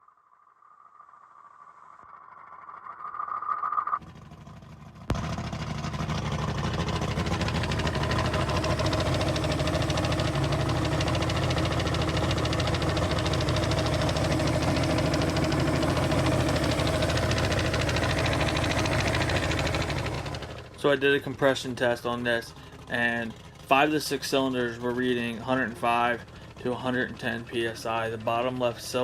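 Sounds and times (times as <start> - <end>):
outboard engine starting and idling: 4.0 - 29.0.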